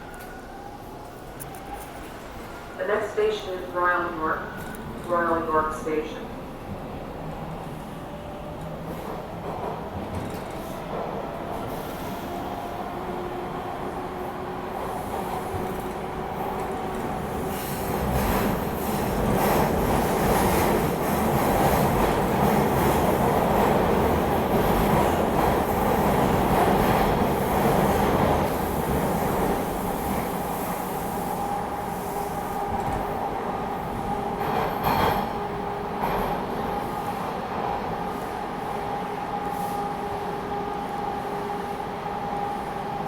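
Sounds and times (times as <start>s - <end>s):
subway train rumble: 0.0s - 43.0s.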